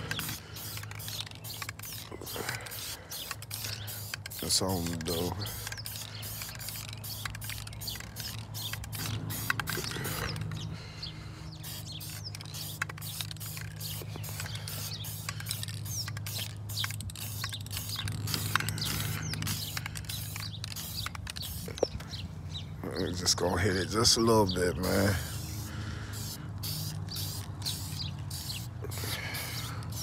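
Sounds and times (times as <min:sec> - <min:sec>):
spray can ball rattling: 0:00.0 - 0:10.6, 0:11.6 - 0:21.9, 0:24.8 - 0:30.0.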